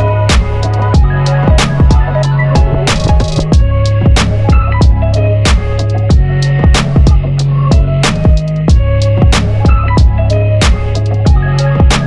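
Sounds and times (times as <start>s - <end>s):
music with deep bass and drums: 0.0s - 12.0s.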